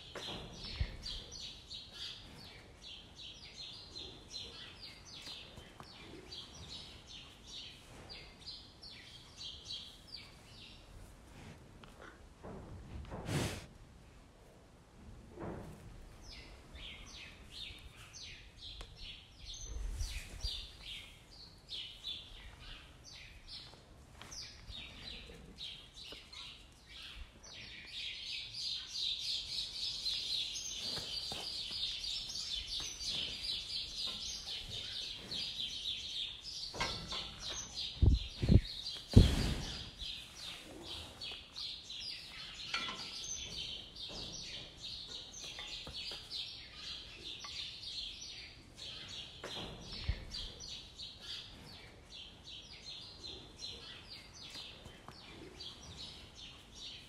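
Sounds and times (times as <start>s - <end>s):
small birds chirping: 0.0s - 11.1s, 16.1s - 57.0s.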